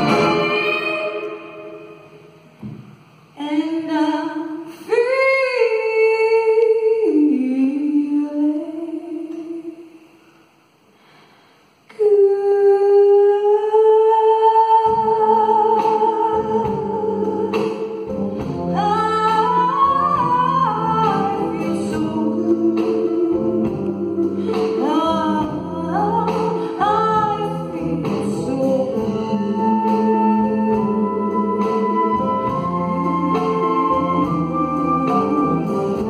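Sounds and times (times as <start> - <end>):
woman singing into a microphone: 3.4 - 9.9, 11.9 - 17.8, 18.7 - 36.0.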